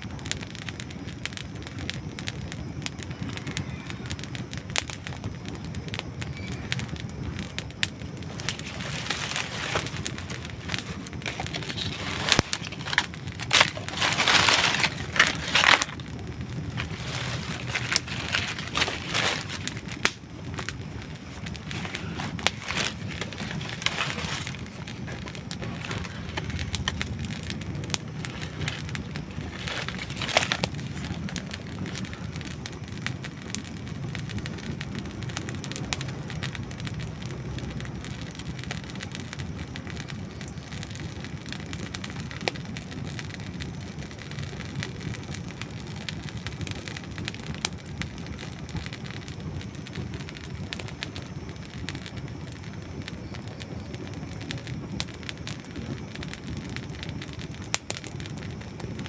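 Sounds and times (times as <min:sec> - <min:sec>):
logs crackling and popping: 0:00.0 - 0:59.0
low rumble of flames: 0:00.0 - 0:59.0.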